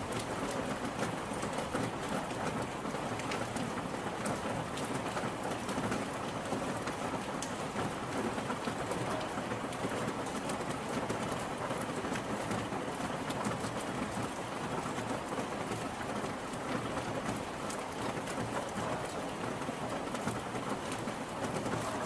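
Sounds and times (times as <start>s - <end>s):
rain on hard surfaces: 0.0s - 22.0s.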